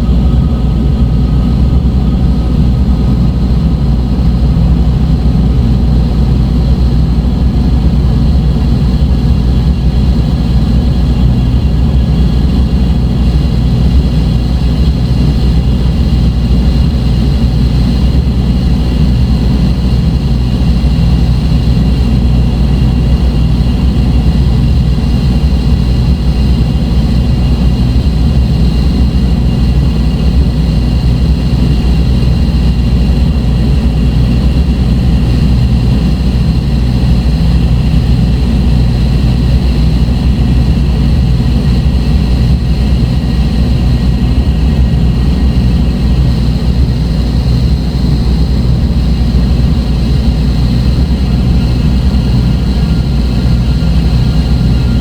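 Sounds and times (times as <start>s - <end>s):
low rumbling drone: 0.0s - 55.0s.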